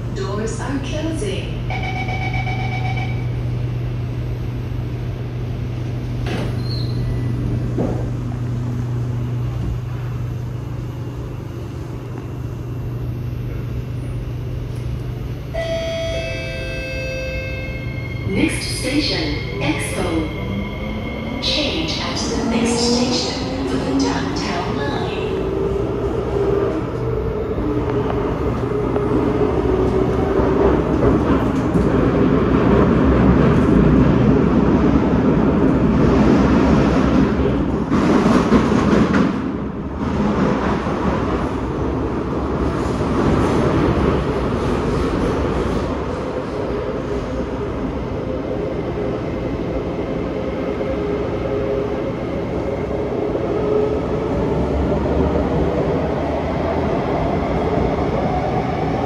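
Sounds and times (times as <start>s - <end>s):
train wheel and rail noise: 0.0s - 59.0s.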